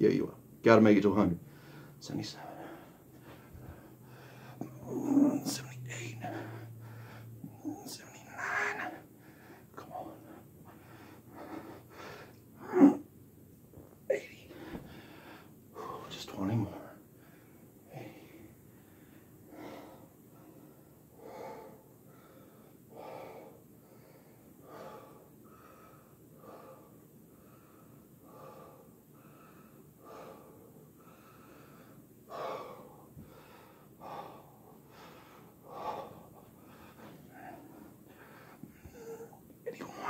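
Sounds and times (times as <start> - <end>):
man breathing hard: 1.5 - 12.6, 14.4 - 40.0.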